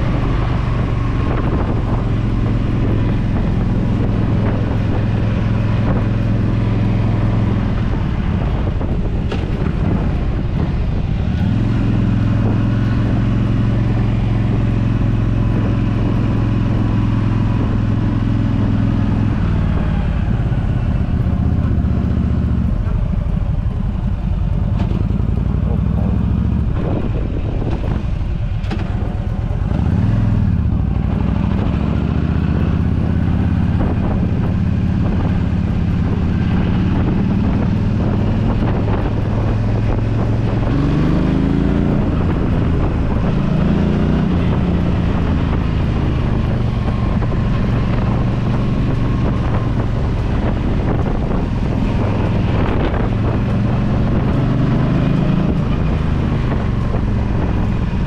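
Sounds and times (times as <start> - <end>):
motorcycle engine accelerating: 0.0 - 58.0
wind noise on microphone: 0.0 - 58.0.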